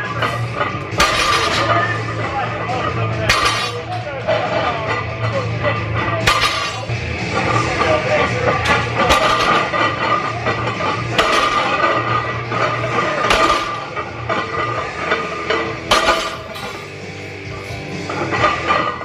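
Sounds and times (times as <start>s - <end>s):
barbell plates clanking: 0.0s - 19.0s.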